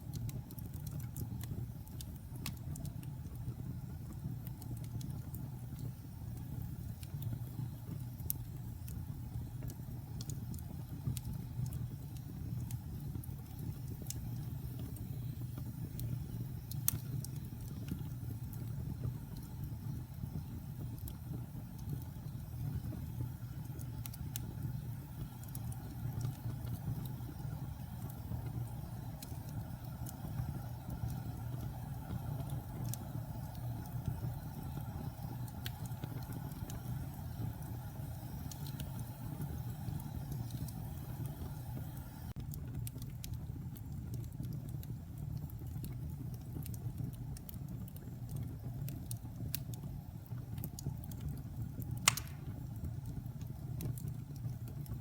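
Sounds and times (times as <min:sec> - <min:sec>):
wood fire burning and crackling: 0:00.0 - 0:55.0.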